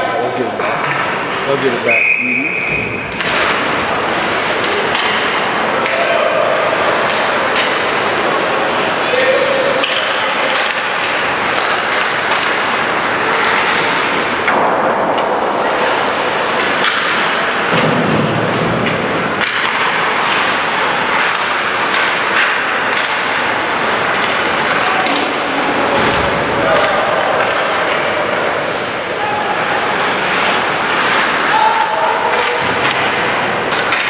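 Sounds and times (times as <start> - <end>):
puck hitting sticks and boards: 0.4 - 1.9, 2.6 - 34.0
hockey sticks clacking: 0.4 - 34.0
skates scraping ice: 2.5 - 34.0.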